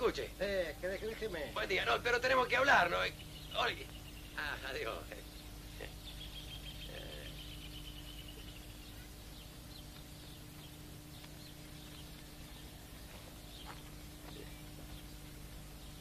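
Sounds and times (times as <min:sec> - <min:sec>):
birds chirping: 0:00.0 - 0:16.0
film soundtrack hum and hiss: 0:00.0 - 0:16.0.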